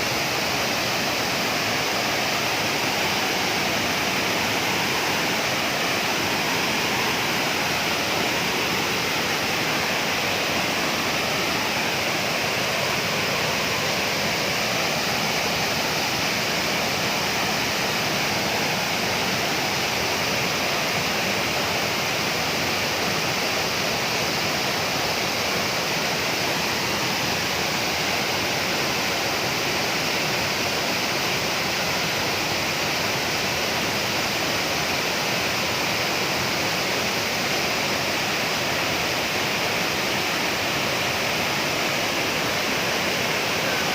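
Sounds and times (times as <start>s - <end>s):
waterfall rushing and splashing: 0.0s - 43.9s.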